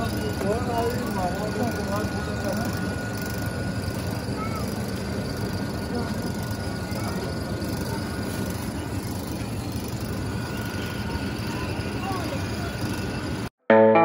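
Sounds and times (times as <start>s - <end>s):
faint high whine: 0.0s - 13.5s
busy market din: 0.0s - 14.0s.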